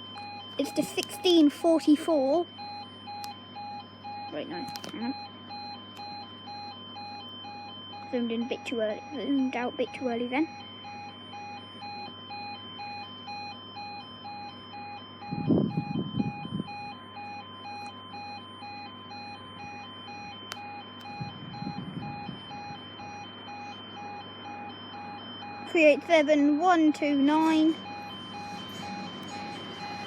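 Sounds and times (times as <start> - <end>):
level crossing alarm pulsing tone: 0.0 - 30.0.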